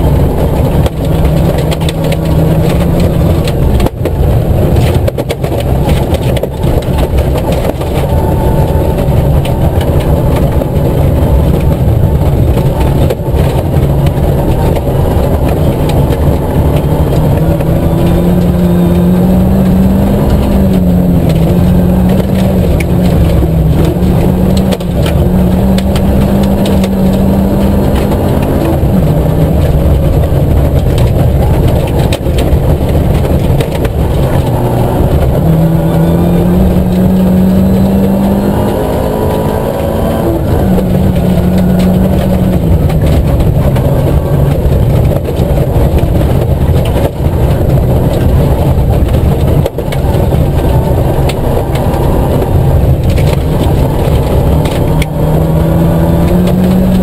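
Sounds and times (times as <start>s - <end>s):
car engine revving: 0.0s - 57.0s
tyres rumbling on gravel: 0.0s - 57.0s
stones ticking against car: 0.1s - 18.6s, 19.6s - 57.0s.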